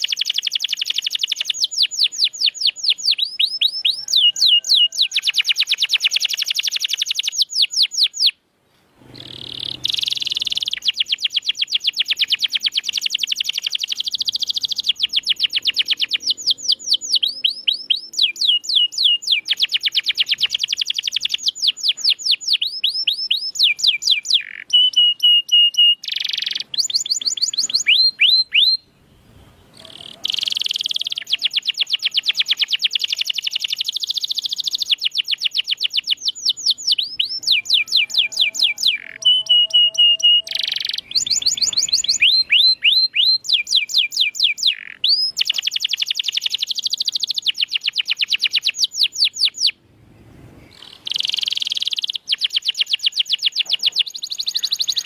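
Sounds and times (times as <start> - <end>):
canary singing trills: 0.0 - 8.4, 9.0 - 49.8, 50.6 - 55.0.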